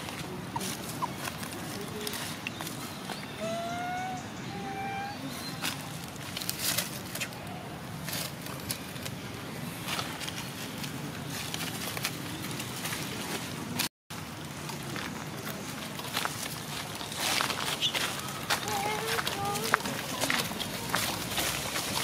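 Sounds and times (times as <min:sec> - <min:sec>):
dry leaves rustling and crackling: 0:00.0 - 0:03.8, 0:04.7 - 0:22.0
outdoor background noise: 0:00.0 - 0:22.0.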